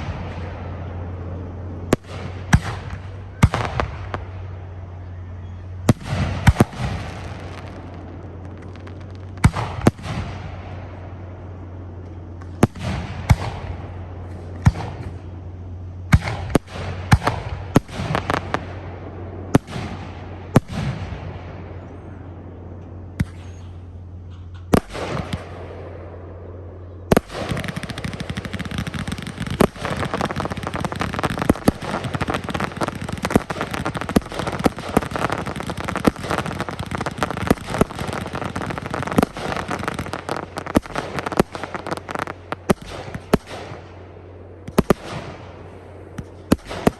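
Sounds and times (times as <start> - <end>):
barrage of rapid firework bangs: 0.0 - 1.0, 1.8 - 4.8, 5.8 - 11.3, 12.4 - 15.5, 16.1 - 22.0, 23.2 - 26.1, 27.1 - 46.9
fireworks crackling: 0.0 - 21.4, 27.1 - 46.9.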